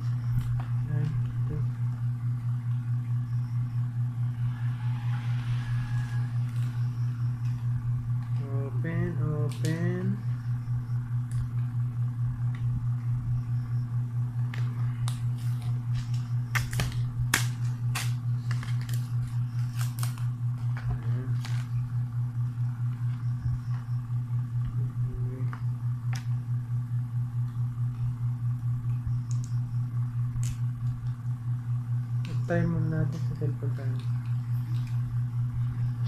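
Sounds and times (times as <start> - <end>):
low pulsing hum: 0.0 - 36.0.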